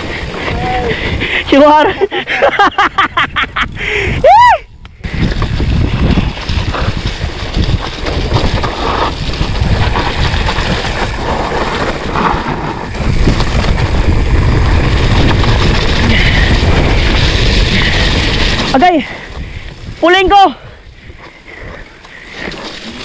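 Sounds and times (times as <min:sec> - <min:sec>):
bike rumbling and rattling: 0:00.0 - 0:23.0
wind rushing over microphone: 0:03.1 - 0:21.9.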